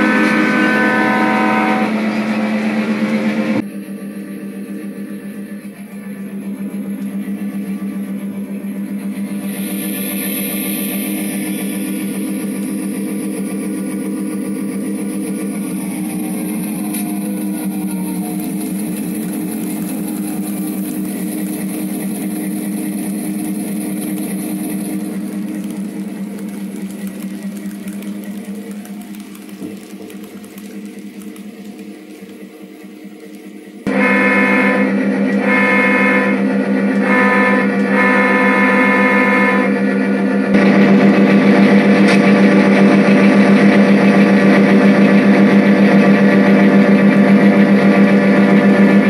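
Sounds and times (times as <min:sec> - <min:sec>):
model train running: 0:00.0 - 0:49.0.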